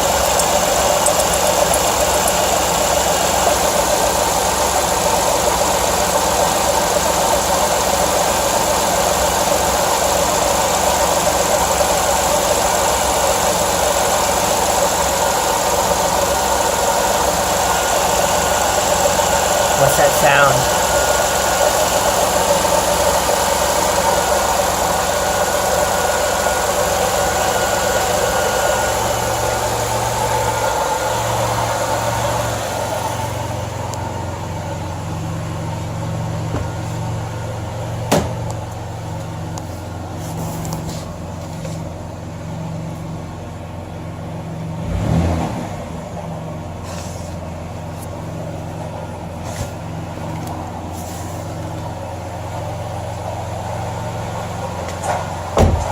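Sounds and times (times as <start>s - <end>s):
car engine idling: 0.0s - 45.1s, 45.7s - 55.9s.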